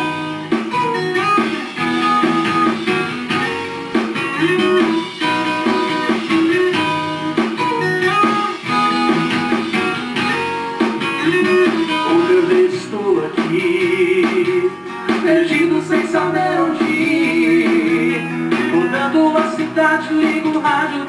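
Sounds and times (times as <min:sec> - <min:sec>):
band music with plucked guitar: 0:00.0 - 0:21.0.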